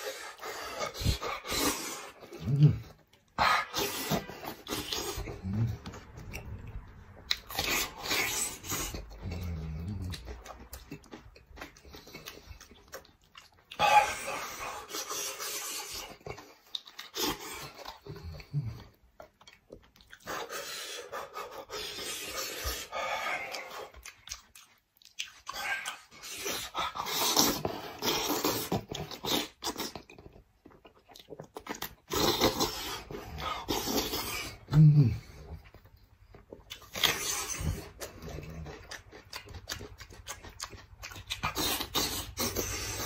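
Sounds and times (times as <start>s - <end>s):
wet chewing: 0.0s - 43.0s.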